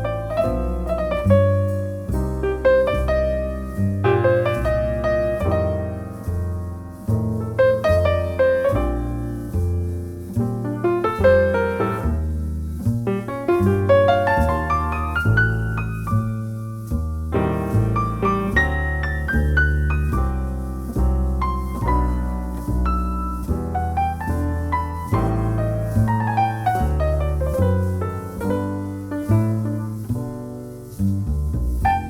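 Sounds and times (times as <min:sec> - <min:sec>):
jazz piano ballad: 0:00.0 - 0:32.0.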